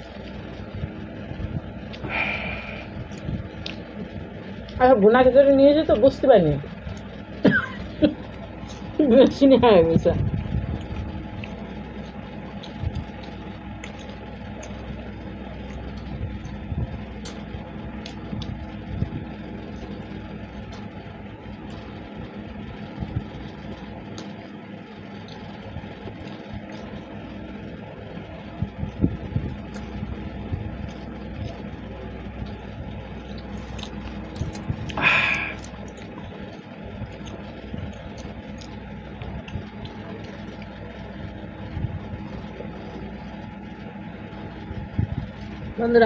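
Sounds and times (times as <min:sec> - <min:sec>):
machine-like background hum: 0:00.0 - 0:46.0
people chewing: 0:01.9 - 0:04.8, 0:06.8 - 0:09.5, 0:10.4 - 0:45.6.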